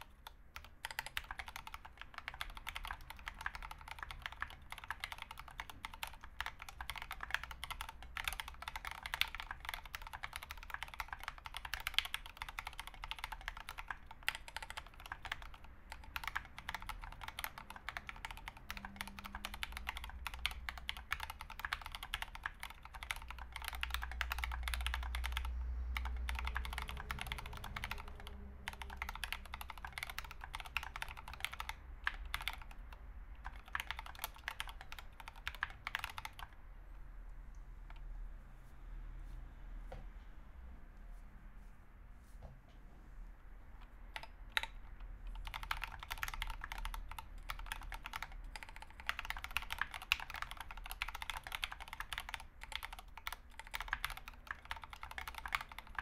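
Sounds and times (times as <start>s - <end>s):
mechanical keyboard typing: 0.0s - 36.6s, 43.8s - 56.0s.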